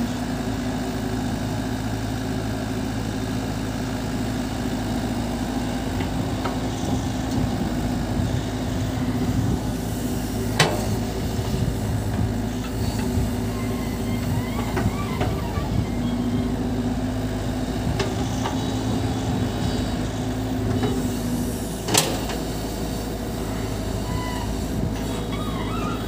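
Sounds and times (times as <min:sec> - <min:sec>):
excavator diesel engine and hydraulics: 0:00.0 - 0:26.0.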